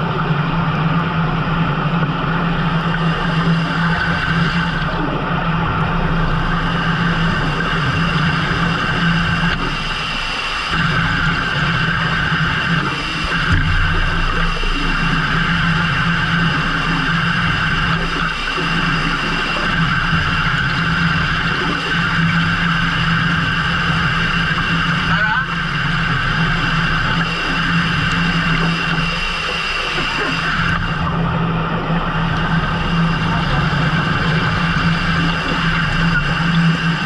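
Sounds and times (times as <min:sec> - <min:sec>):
boat engine running under load: 0:00.0 - 0:37.0.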